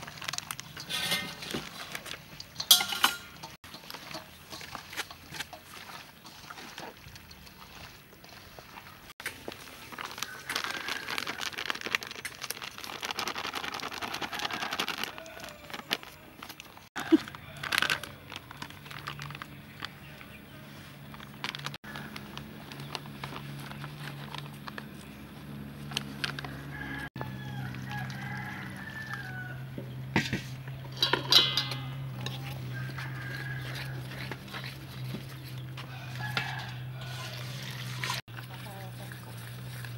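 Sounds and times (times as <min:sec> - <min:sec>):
hands mixing wet chicken: 0:00.0 - 0:29.7, 0:30.6 - 0:39.9.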